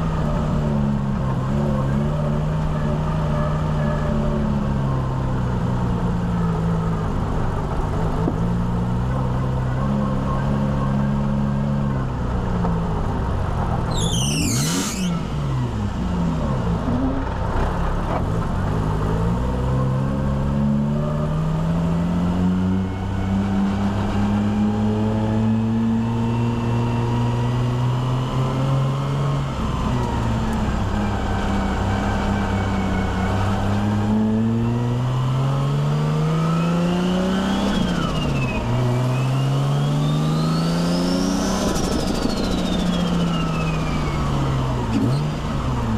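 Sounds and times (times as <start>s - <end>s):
car engine accelerating and shifting gears: 0.0s - 45.9s.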